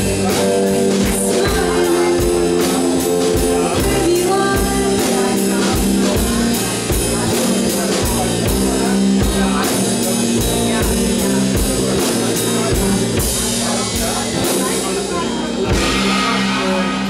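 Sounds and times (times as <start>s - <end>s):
woman singing: 0.0s - 16.1s
drum kit beat: 0.0s - 17.0s
guitars playing: 0.0s - 17.0s.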